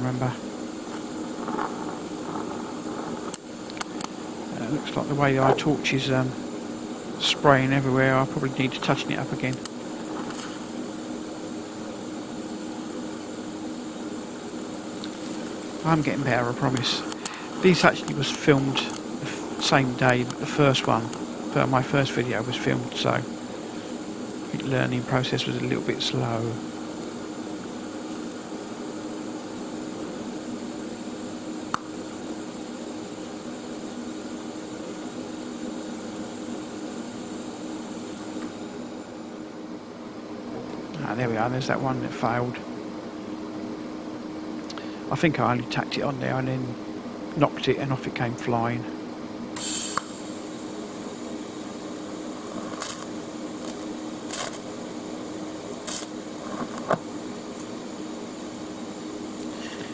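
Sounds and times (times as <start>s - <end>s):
welding arc hissing: 0.0s - 39.6s, 49.6s - 59.9s
crackling hisses: 0.0s - 39.7s, 49.6s - 59.9s
cooling fan humming: 0.0s - 59.9s.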